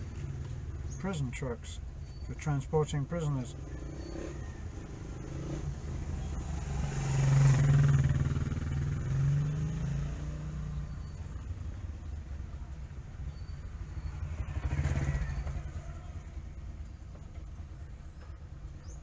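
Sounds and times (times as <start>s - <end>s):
vehicle engine passing by: 3.2s - 18.9s.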